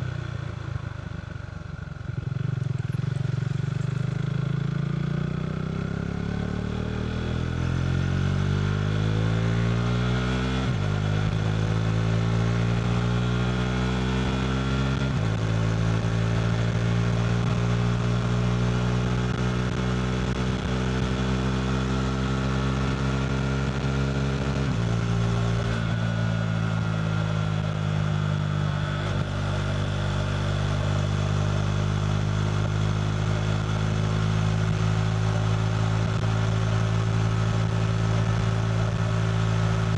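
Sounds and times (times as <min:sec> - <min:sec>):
motorcycle engine accelerating: 0:01.9 - 0:39.9.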